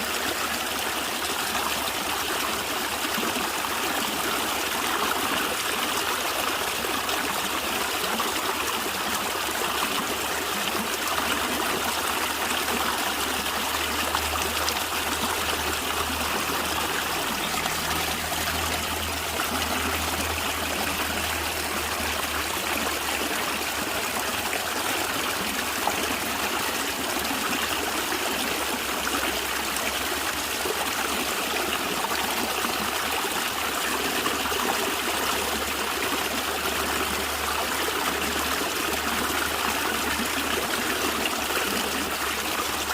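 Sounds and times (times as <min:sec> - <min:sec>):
stream gurgling over stones: 0:00.0 - 0:42.9.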